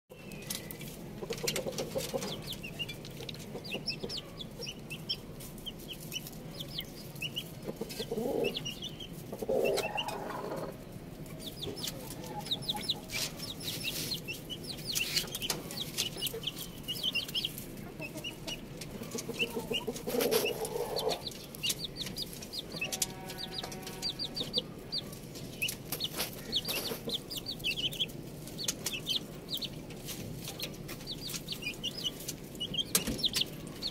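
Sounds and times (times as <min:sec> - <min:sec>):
chicks and ducklings peeping: 0:00.1 - 0:33.9.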